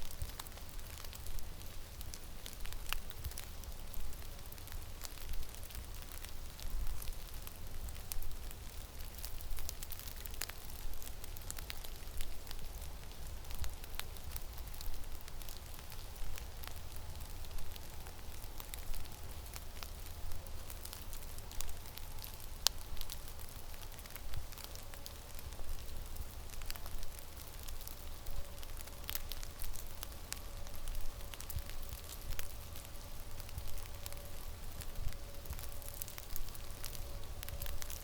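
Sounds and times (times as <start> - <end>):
small sharp ticks and crackles: 0.0 - 38.0.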